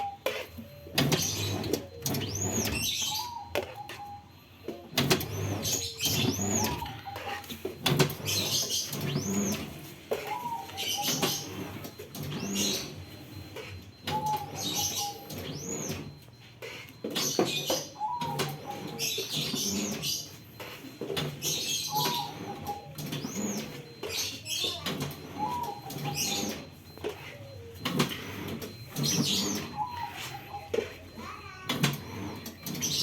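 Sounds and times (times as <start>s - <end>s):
high chirping squeaks: 0.0s - 33.0s
machine whine: 0.0s - 33.0s
printing machine clacks: 0.0s - 33.0s.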